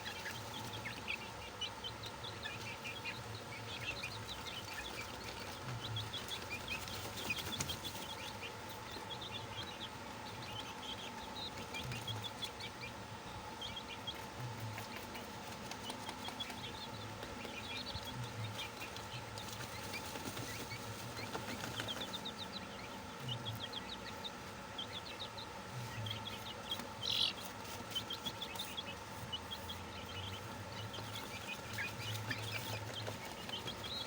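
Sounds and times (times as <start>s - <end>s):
chicks peeping: 0.0s - 34.0s
faint steady hum: 0.0s - 34.0s.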